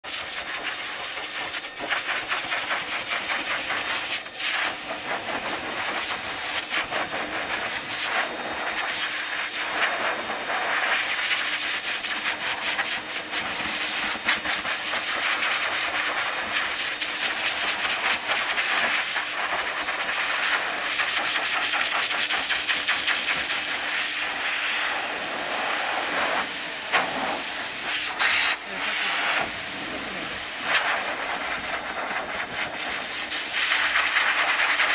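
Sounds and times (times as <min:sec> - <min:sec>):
pet dryer air rushing: 0:00.1 - 0:34.9.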